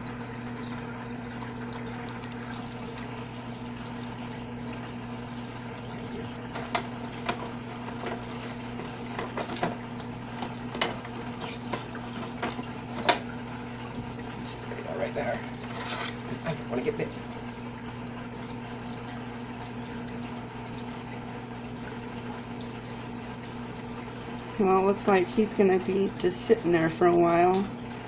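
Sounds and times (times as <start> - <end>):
water pump humming: 0.0 - 28.0
water trickling: 0.0 - 28.0.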